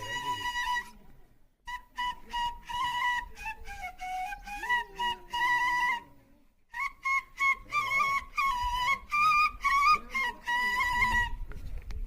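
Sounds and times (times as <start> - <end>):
flute melody: 0.0 - 1.0, 1.6 - 11.6.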